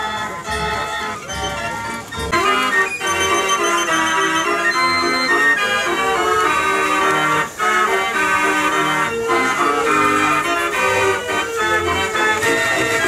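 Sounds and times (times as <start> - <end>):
organ music: 0.0 - 13.0.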